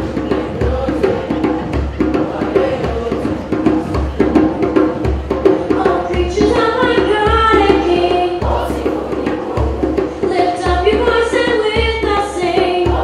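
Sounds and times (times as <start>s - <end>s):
djembe hand drumming: 0.0s - 13.0s
voices singing: 0.0s - 13.0s.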